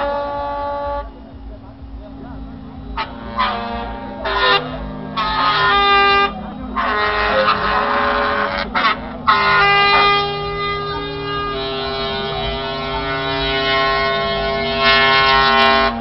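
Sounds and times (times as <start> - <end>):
keyboard train horn chords: 0.0 - 16.0.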